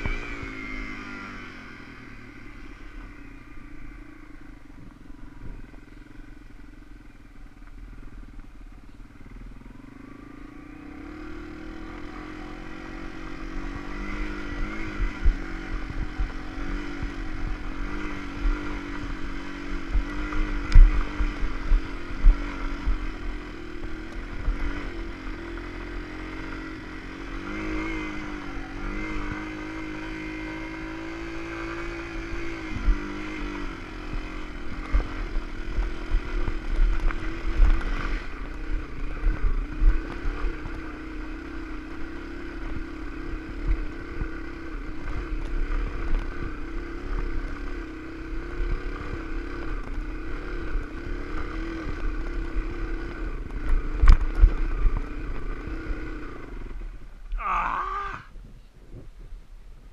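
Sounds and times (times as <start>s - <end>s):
motorcycle engine under load: 0.0s - 59.9s.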